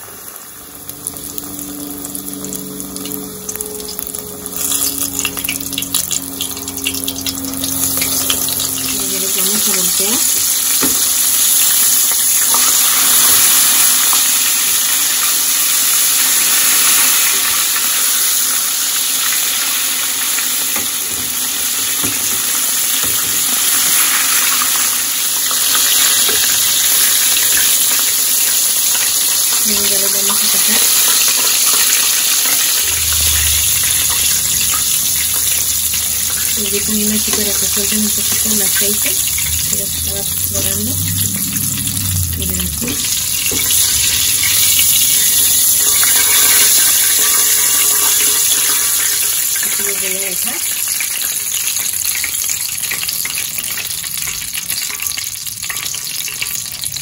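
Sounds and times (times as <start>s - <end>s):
food deep-frying in oil: 0.0s - 57.0s.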